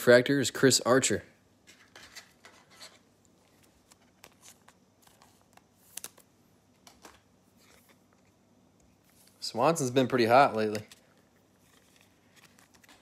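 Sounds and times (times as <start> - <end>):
trading cards rustling and clicking: 1.6 - 13.0.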